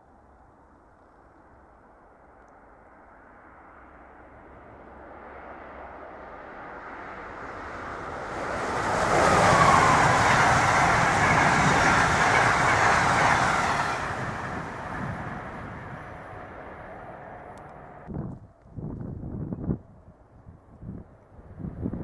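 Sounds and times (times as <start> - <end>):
train passing at speed: 0.2 - 18.1.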